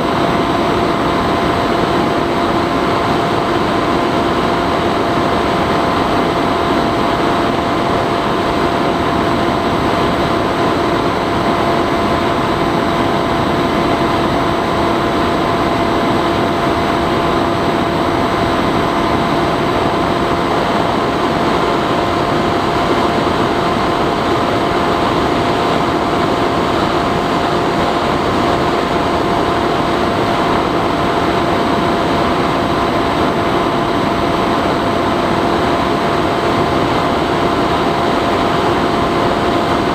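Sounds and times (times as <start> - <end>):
electric motor and propeller hum: 0.0 - 39.9.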